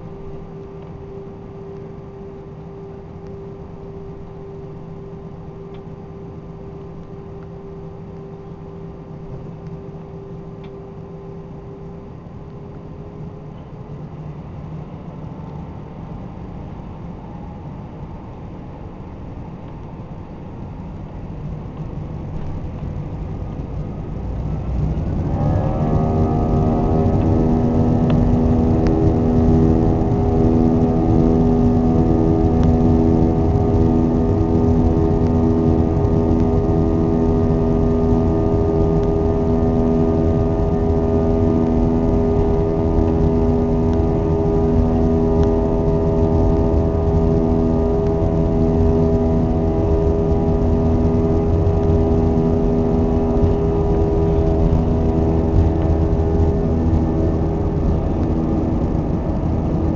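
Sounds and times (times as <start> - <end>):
constant low rumble: 0.0 - 59.9
jet engine whine: 0.0 - 59.9.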